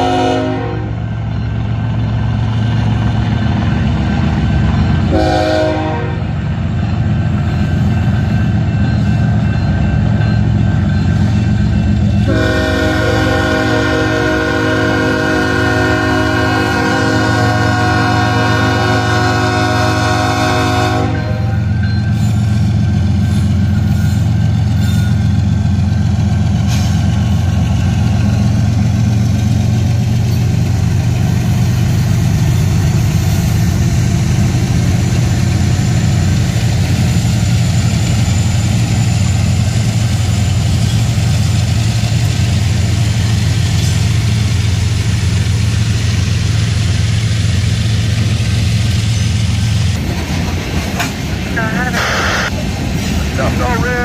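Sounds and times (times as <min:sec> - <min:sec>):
diesel locomotive engine rumble: 0:00.0 - 0:54.0
freight cars rolling on rails: 0:05.8 - 0:54.0.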